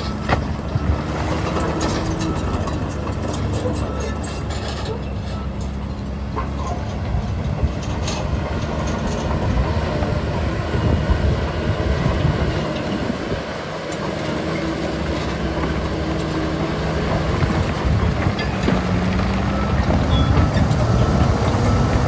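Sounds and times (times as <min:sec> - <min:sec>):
diesel machinery engine rumble: 0:00.0 - 0:22.0.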